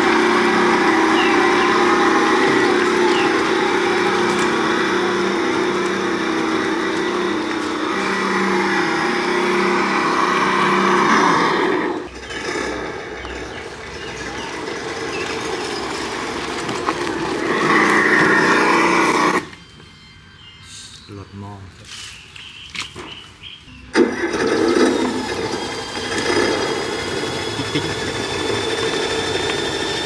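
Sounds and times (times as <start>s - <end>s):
toy truck motor whining: 0.0s - 19.6s, 23.9s - 30.0s.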